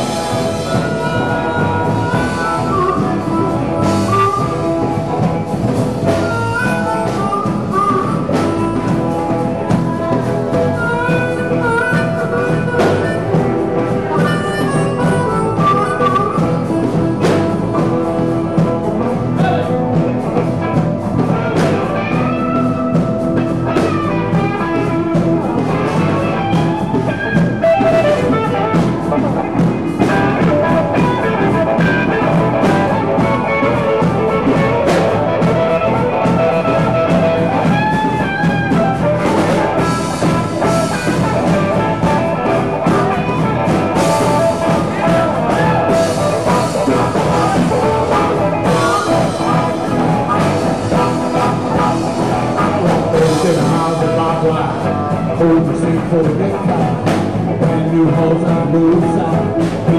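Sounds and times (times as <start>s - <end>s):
harmonica: 0.0s - 55.9s
electric guitar: 0.0s - 59.9s
steady drum beat: 0.0s - 59.9s.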